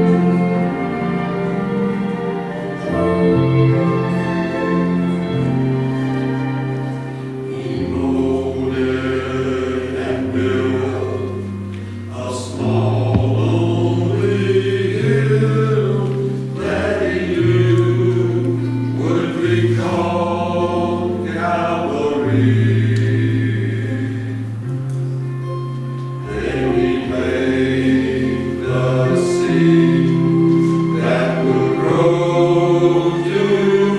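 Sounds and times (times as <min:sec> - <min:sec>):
church choir singing: 0:00.0 - 0:33.9.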